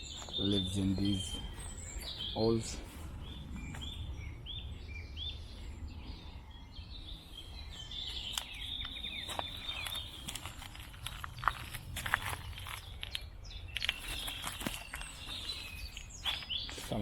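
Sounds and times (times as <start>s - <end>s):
birds singing whistled notes: 0.0s - 17.0s
low wind rumble: 0.0s - 17.0s.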